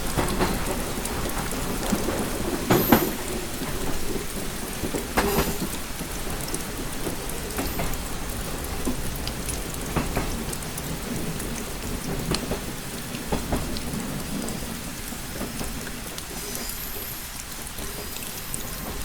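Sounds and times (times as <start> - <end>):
rain drops tapping window: 0.0 - 19.0
steady rain: 0.0 - 19.0.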